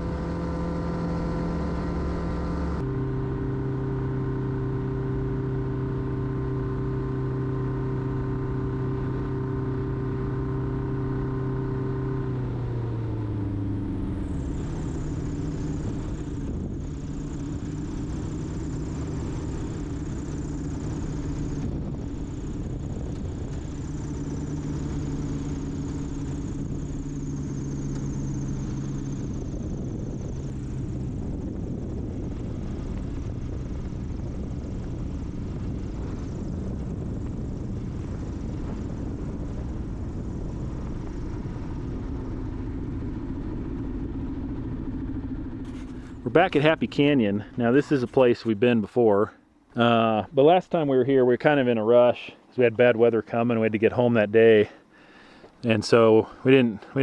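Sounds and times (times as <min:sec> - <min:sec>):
propeller airplane engine: 0:00.0 - 0:57.0.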